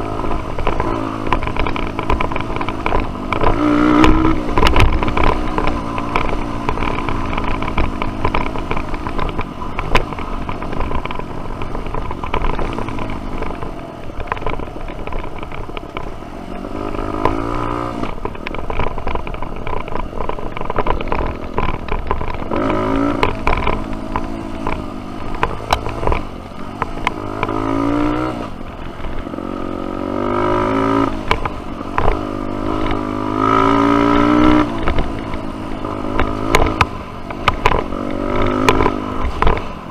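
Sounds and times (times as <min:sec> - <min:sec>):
dirt bike engine revving: 0:00.0 - 0:13.6, 0:16.5 - 0:18.3, 0:20.9 - 0:26.3, 0:26.9 - 0:39.9.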